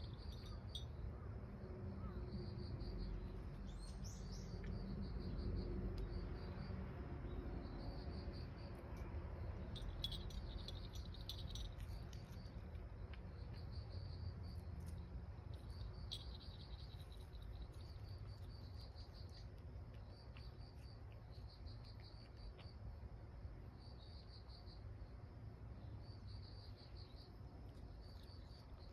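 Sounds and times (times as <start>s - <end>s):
insect chirping: 0.0s - 28.9s.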